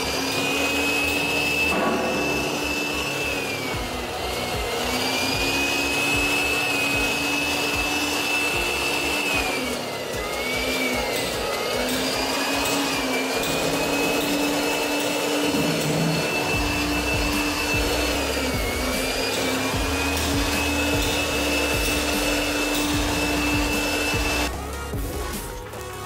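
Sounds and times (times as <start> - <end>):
electric blower whining: 0.0 - 26.0.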